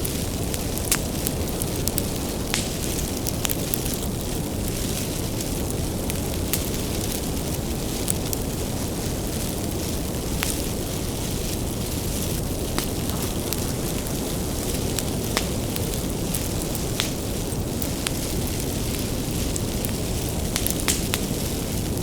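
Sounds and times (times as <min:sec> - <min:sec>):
rumble of flames: 0:00.0 - 0:22.0
wood crackling and popping: 0:00.0 - 0:22.0.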